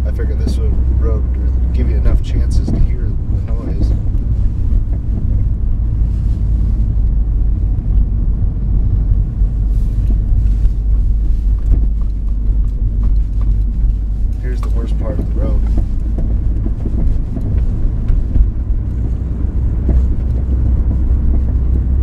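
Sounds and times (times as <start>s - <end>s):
road and tyre rumble: 0.0s - 22.0s
faint knocks and rattles: 0.2s - 7.2s, 10.0s - 22.0s.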